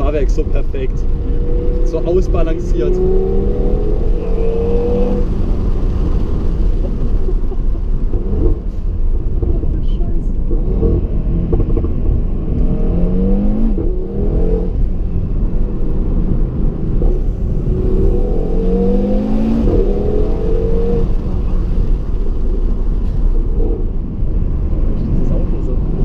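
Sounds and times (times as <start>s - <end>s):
car engine accelerating hard: 0.0s - 9.7s, 10.4s - 26.0s.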